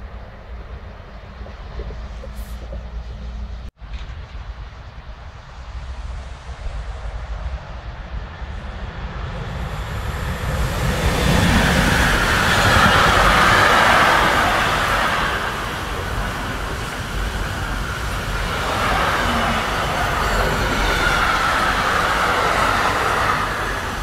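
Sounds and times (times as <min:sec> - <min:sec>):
freight train passing: 0:00.0 - 0:24.0.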